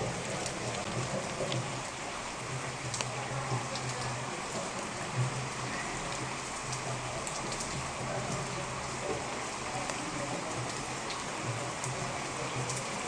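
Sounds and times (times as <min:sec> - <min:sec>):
heavy rain falling: 0:00.0 - 0:13.0
raindrop ticks: 0:00.0 - 0:13.0.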